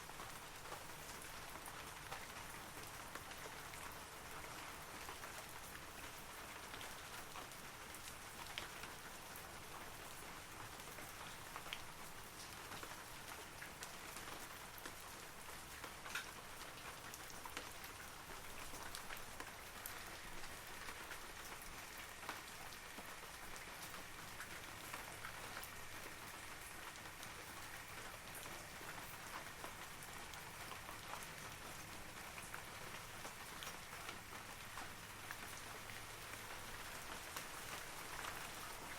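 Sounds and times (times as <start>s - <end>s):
rain falling on trees: 0.0s - 38.9s.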